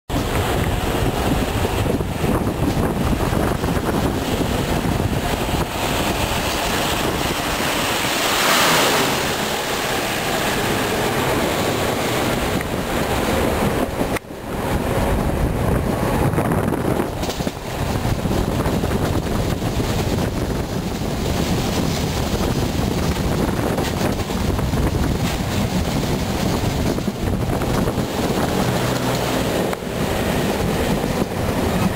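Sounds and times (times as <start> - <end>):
train running noise: 0.1 - 31.9
wind rushing over microphone: 0.1 - 31.9.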